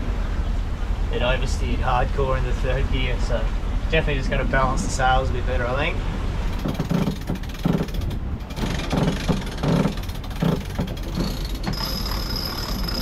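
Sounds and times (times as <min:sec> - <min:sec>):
wind buffeting microphone: 0:00.0 - 0:11.8
water rushing along hull: 0:00.0 - 0:13.0.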